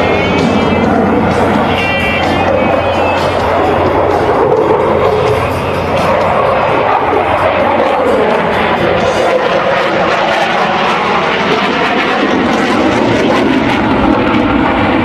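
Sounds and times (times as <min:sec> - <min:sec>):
fighter jet engines roaring: 0:00.0 - 0:15.0.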